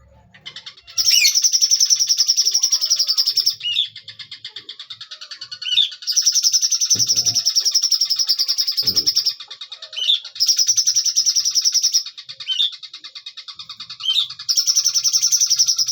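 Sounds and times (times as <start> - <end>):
songbird trilling: 0.4 - 15.9.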